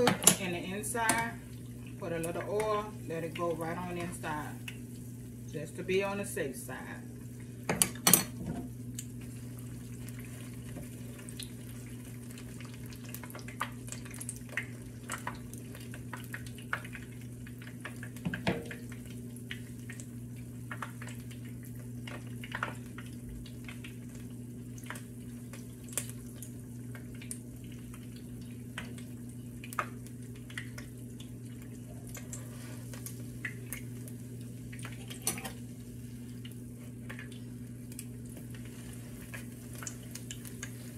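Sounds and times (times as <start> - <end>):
hot oil popping and crackling: 0.0 - 5.5, 6.8 - 40.9.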